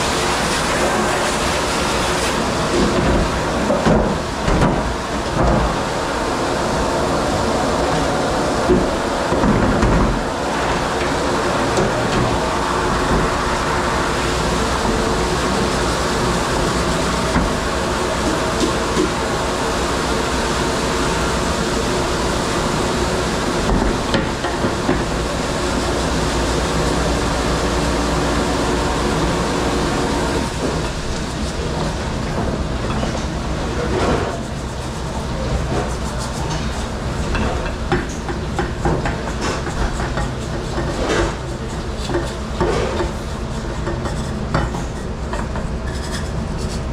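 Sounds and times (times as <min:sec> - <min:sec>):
dishwasher running: 0:00.0 - 0:46.9.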